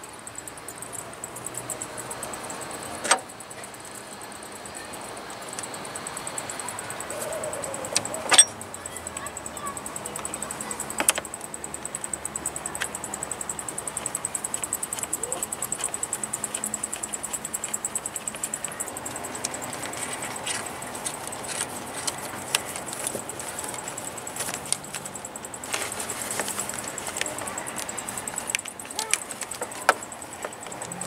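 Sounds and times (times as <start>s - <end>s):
light metallic clicks and clinks: 0.0s - 31.0s.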